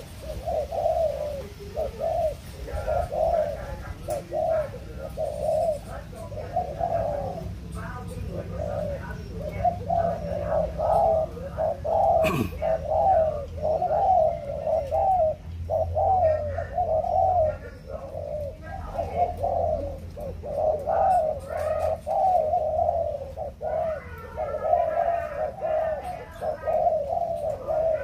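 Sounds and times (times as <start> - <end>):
dove cooing: 0.0 - 28.0.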